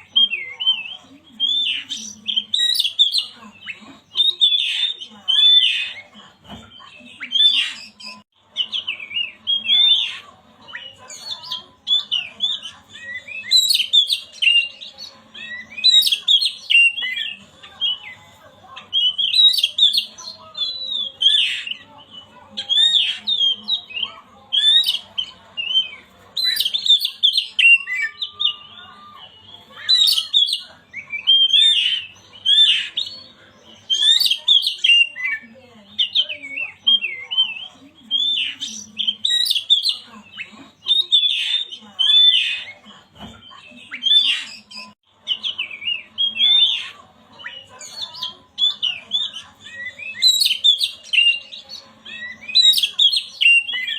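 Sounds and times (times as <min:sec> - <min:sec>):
bird singing chirps and whistles: 0:00.0 - 0:06.0, 0:06.8 - 0:18.2, 0:18.8 - 0:42.8, 0:43.4 - 0:53.9.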